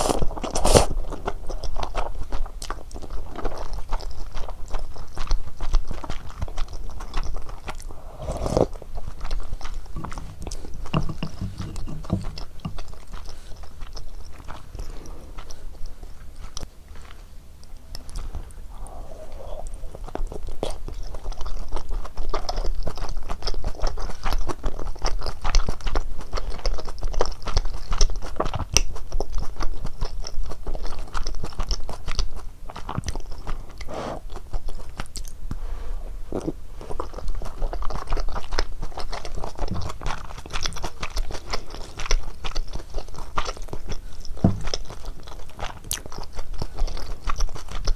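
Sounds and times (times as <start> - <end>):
close chewing with wet clicks: 0.0 - 35.6, 36.3 - 47.9.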